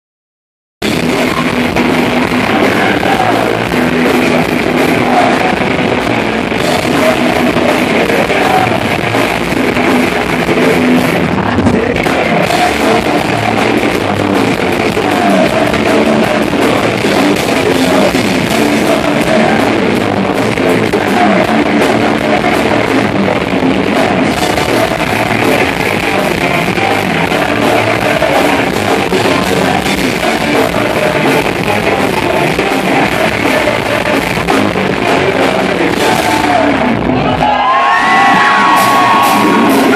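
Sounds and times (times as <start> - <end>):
live rock band playing: 0.8 - 39.9
man singing: 0.8 - 39.9.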